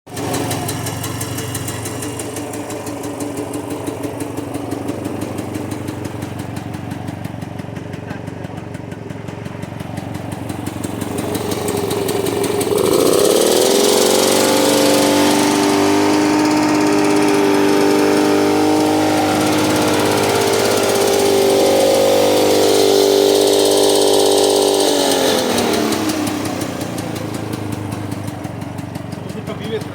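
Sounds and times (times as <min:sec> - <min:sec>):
generator engine running: 0:00.1 - 0:29.9.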